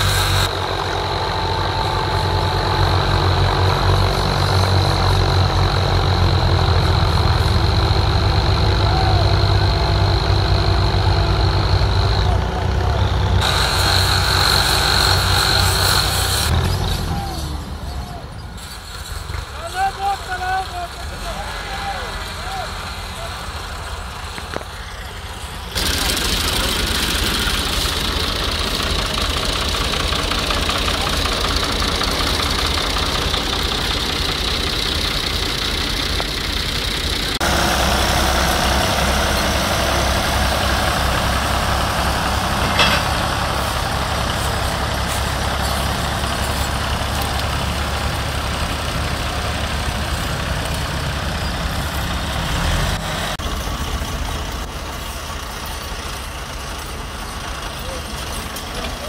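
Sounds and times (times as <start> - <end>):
tractor diesel engines running hard: 0.0 - 59.0.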